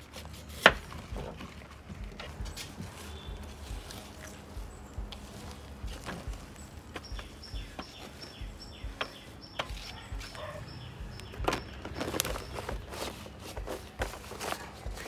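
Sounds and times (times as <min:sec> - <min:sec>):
banana leaf crackling: 0:00.0 - 0:15.0
bird chirping: 0:02.0 - 0:15.0.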